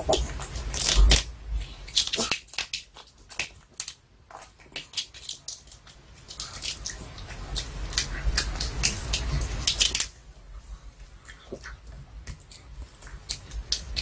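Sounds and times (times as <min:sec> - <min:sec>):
dog crunching a chew: 0:00.0 - 0:10.2, 0:11.2 - 0:14.0.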